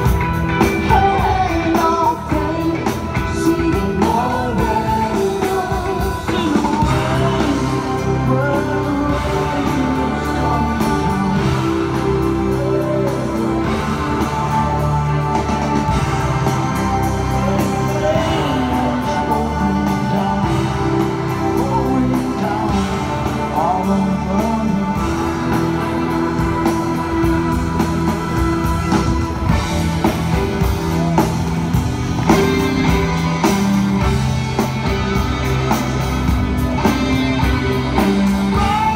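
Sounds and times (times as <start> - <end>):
lead voice singing: 0.0 - 38.9
live rock band playing: 0.0 - 38.9.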